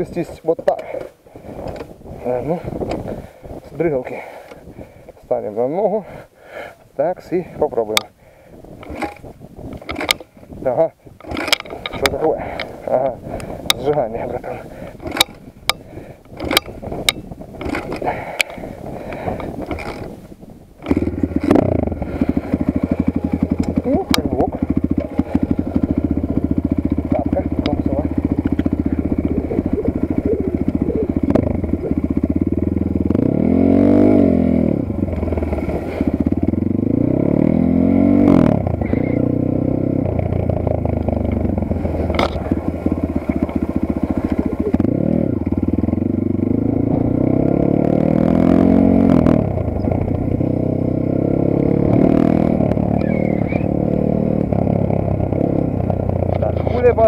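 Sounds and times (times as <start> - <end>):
motorcycle engine revving: 7.3 - 57.0.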